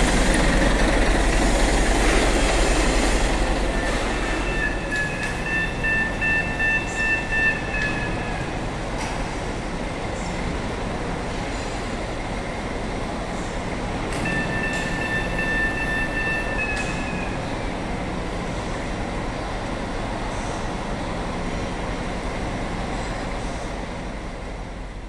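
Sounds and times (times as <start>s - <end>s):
heavy machinery rumble: 0.0s - 25.0s.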